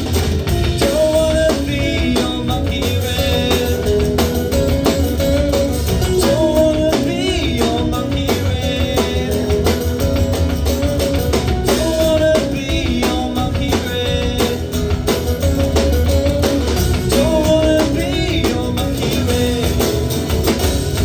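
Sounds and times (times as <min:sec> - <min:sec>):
rock band music: 0:00.0 - 0:21.0.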